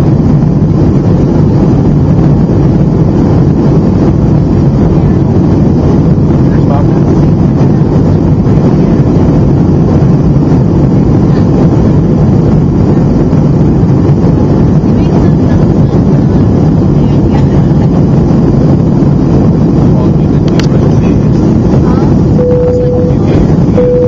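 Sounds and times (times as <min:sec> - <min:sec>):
jet engines and airflow rushing: 0:00.0 - 0:24.0.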